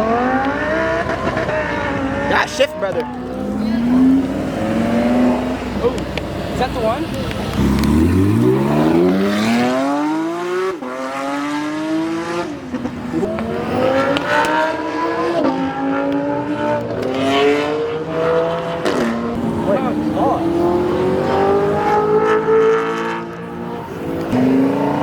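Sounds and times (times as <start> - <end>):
car accelerating hard: 0.0 - 25.0
quick gear upshifts: 0.0 - 25.0.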